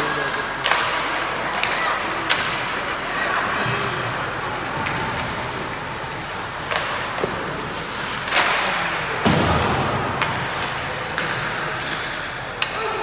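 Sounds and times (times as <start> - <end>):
hockey sticks and puck clacking: 0.0 - 13.0.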